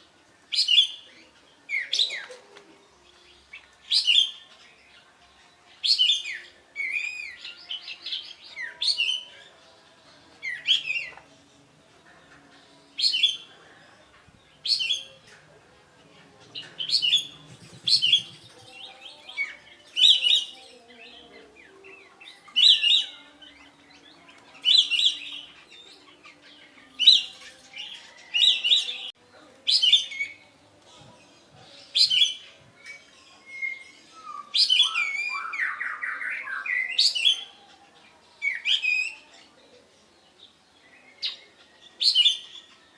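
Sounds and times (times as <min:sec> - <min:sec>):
songbird singing sharp phrases: 0:00.0 - 0:42.9.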